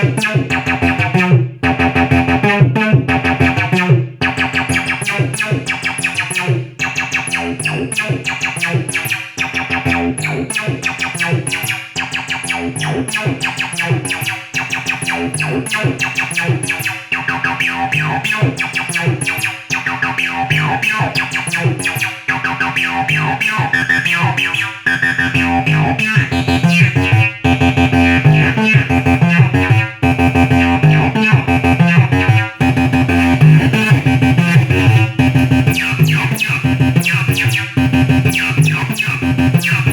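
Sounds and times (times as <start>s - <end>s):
bass synthesizer acid line: 0.0s - 39.9s.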